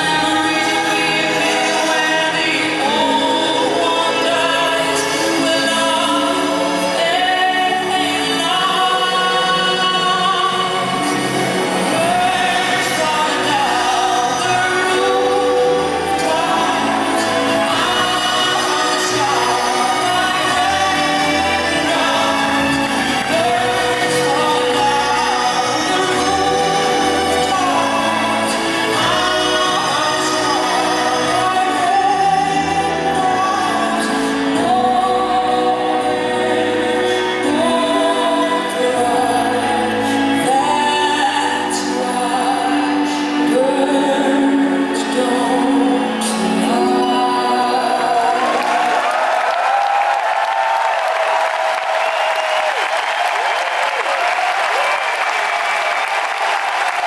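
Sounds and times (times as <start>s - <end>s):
woman singing: 0.0s - 49.4s
band playing pop ballad: 0.0s - 54.0s.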